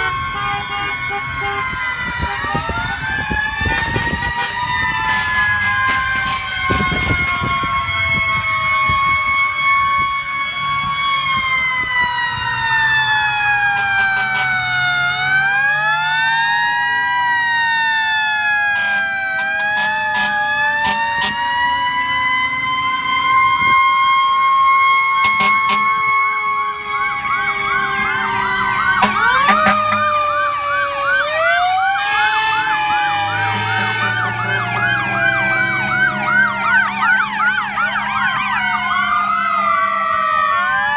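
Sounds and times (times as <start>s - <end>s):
fire truck sirens wailing: 0.0s - 40.9s
siren yelp: 0.0s - 40.9s
truck engines running: 0.0s - 40.9s.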